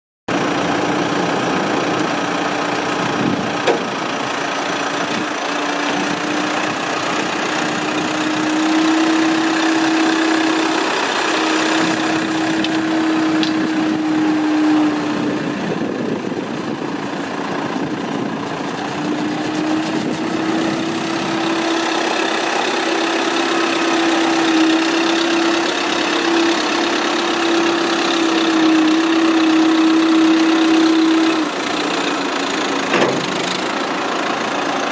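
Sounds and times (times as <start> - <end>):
backhoe diesel engine running: 0.3 - 34.9
steady engine whine: 0.3 - 34.9.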